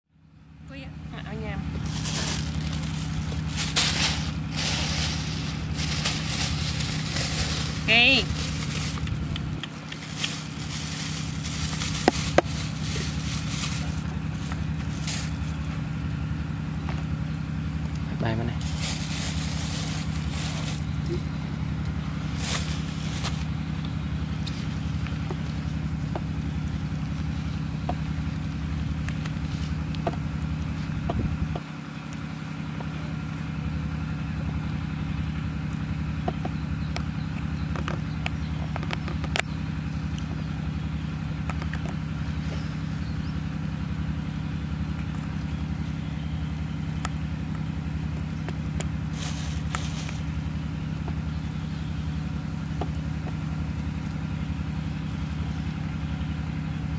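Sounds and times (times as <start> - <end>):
low engine-like hum with throb: 0.1 - 56.9.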